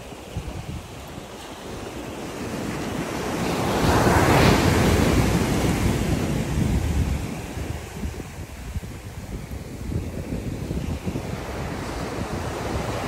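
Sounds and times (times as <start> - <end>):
ocean surf breaking: 0.0 - 13.0
wind rumble on microphone: 0.0 - 13.0.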